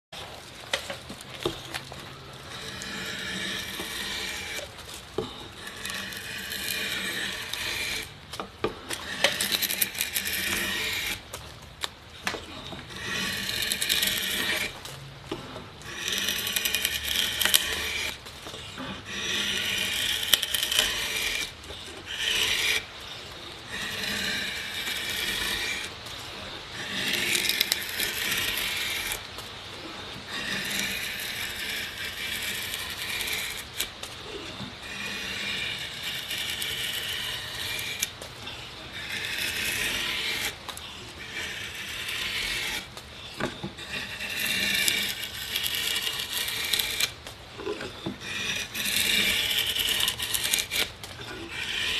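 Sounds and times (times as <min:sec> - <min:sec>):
carving blade shaving wood: 0:00.1 - 0:51.9.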